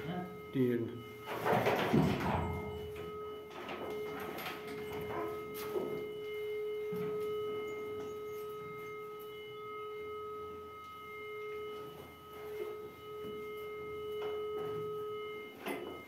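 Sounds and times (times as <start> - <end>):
metal detector electronic tone: 0.0 - 16.0.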